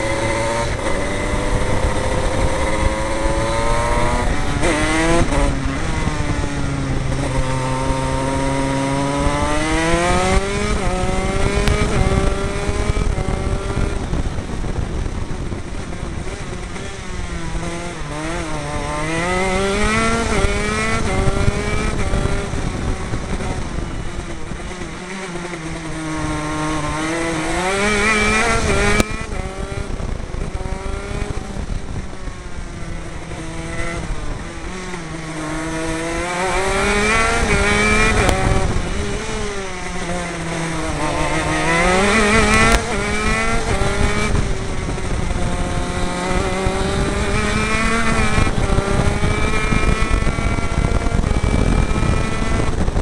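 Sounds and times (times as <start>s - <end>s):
kart engine racing: 0.0s - 53.0s.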